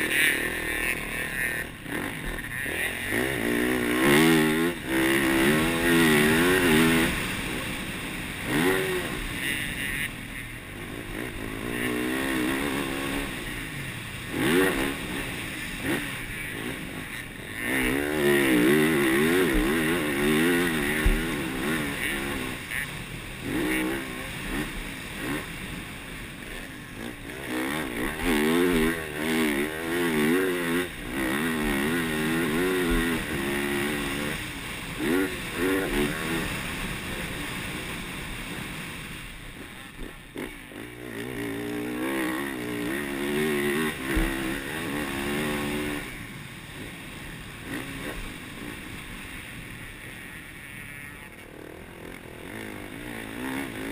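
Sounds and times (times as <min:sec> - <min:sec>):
motocross engine revving: 0:00.0 - 0:53.9.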